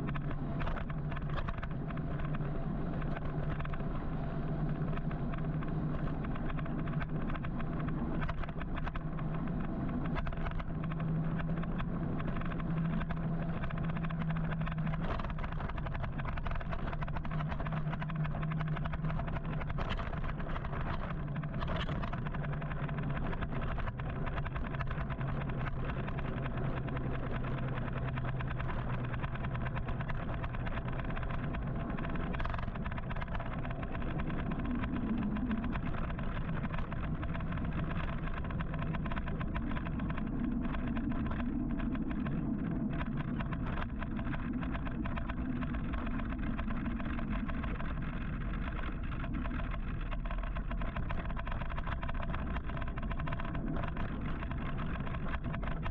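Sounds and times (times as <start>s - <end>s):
car engines running: 0.0s - 55.9s
road and tyre noise: 0.0s - 55.9s.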